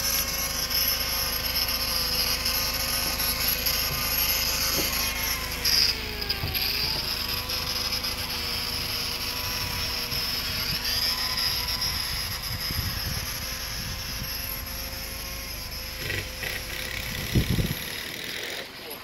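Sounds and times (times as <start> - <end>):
insects trilling: 0.0 - 19.0
machinery humming: 0.0 - 19.0.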